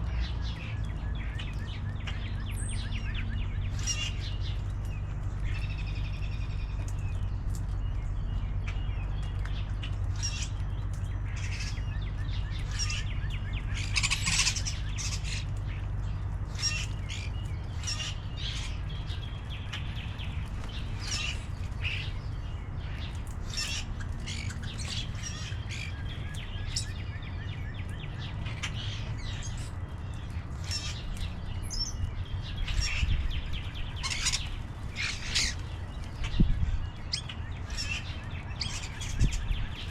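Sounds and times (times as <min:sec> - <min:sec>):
steady low rumble: 0:00.0 - 0:39.9
wild birds chirping: 0:00.0 - 0:39.9.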